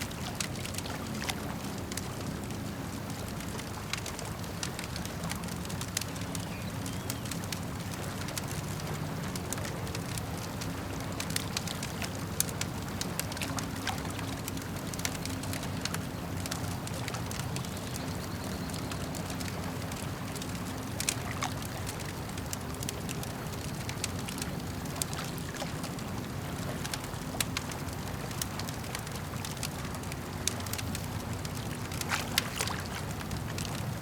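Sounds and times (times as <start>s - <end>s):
campfire crackling and popping: 0.0s - 34.0s
lake water washing: 0.0s - 34.0s.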